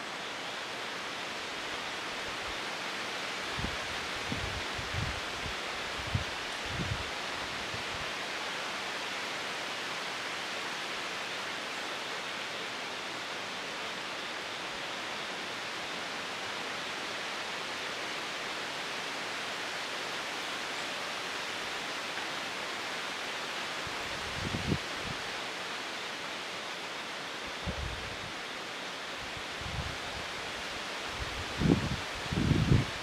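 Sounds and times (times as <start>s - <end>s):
outdoor hiss: 0.0s - 33.0s.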